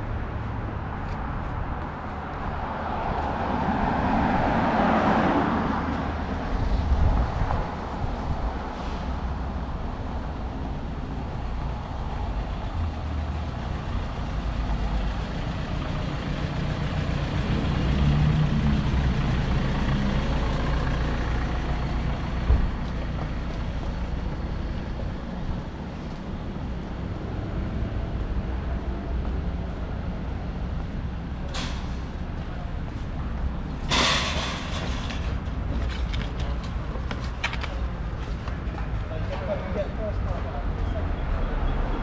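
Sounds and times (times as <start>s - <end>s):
road traffic rumble: 0.0s - 42.0s
heavy vehicle engine passing: 2.1s - 35.9s.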